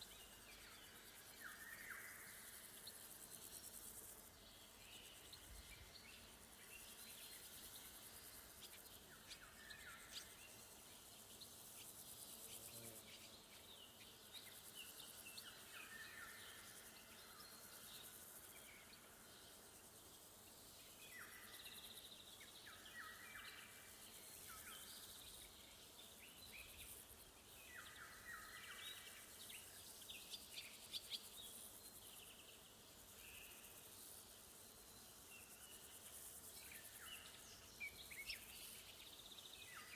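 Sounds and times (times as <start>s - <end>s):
songbirds singing: 0.0s - 34.3s, 34.9s - 39.9s
crickets chirring: 0.0s - 39.9s.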